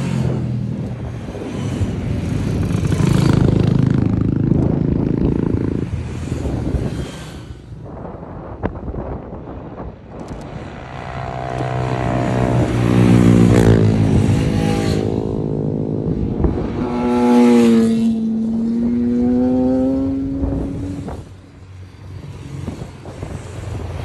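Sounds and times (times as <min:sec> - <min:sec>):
motorcycles passing at speed: 0:00.0 - 0:24.0.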